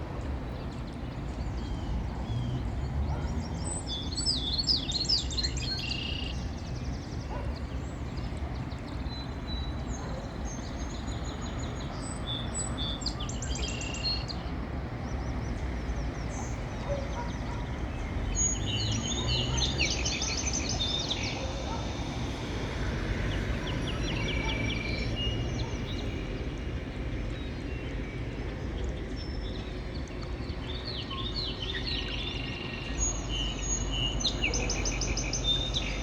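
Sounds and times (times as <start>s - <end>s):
small birds chirping: 0.6s - 22.5s, 28.8s - 36.0s.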